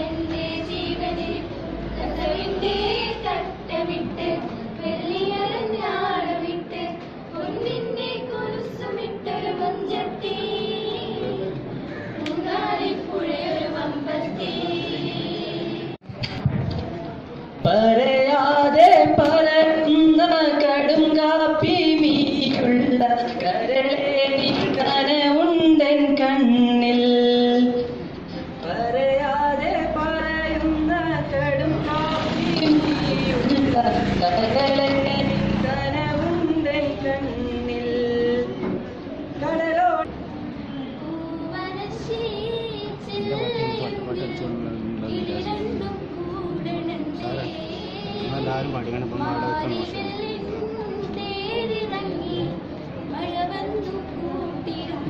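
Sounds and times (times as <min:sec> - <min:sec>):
girls singing together: 0:00.0 - 0:16.0, 0:17.6 - 0:40.1, 0:40.8 - 0:55.0.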